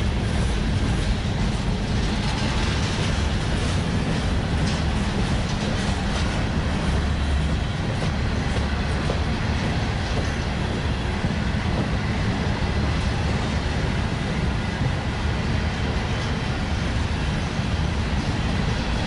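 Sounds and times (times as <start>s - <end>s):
train wheels rumbling on rail: 0.0s - 19.0s
wheels clicking over rail joints: 0.0s - 19.0s.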